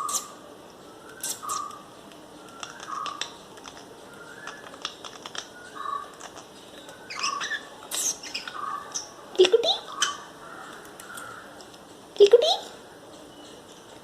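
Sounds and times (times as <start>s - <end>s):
lovebird chirping calls: 0.0s - 11.5s.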